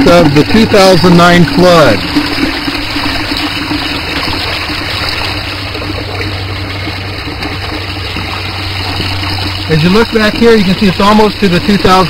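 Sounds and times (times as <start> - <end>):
low steady hum: 0.0 - 12.0
water pouring from pipe: 0.0 - 12.0
water running: 0.0 - 12.0.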